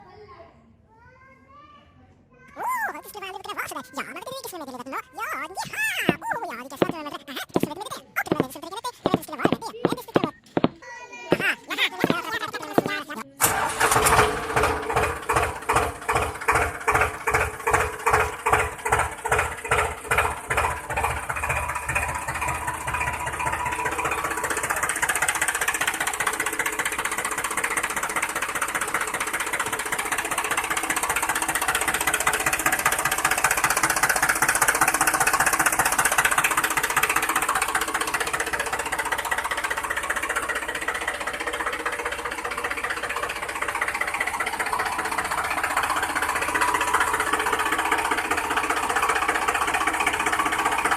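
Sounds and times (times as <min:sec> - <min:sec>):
tractor engine chugging: 0:02.6 - 0:50.9.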